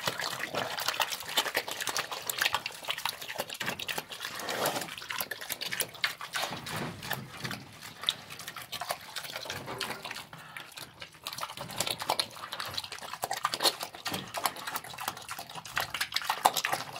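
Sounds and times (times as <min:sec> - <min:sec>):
pig chomping and slurping: 0:00.0 - 0:16.9.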